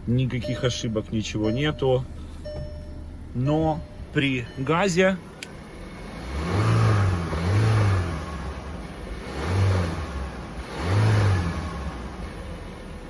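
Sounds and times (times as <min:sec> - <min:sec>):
car engine revving: 0:01.4 - 0:13.0.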